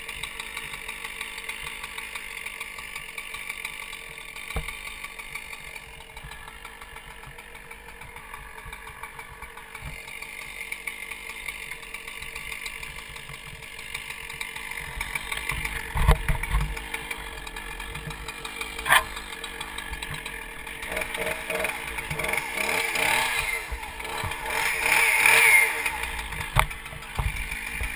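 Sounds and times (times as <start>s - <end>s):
chainsaw idling: 0.0s - 27.9s.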